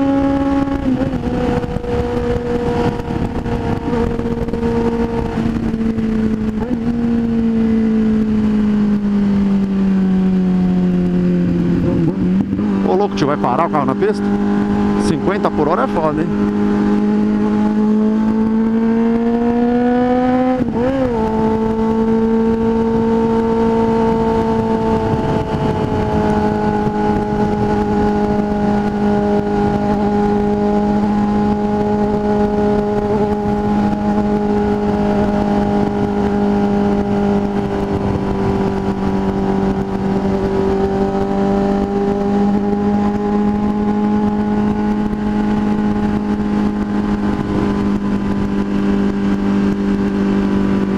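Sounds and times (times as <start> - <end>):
motorcycle engine: 0.0 - 50.9
wind noise on microphone: 0.0 - 50.9.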